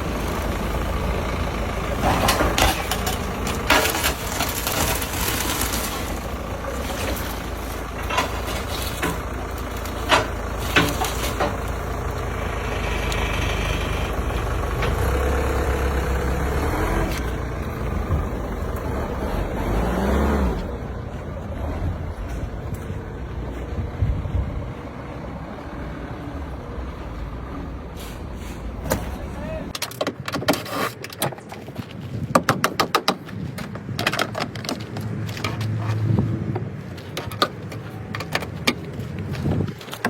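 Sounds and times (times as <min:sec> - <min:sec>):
heavy vehicle engine running: 0:00.0 - 0:29.8, 0:33.2 - 0:40.0.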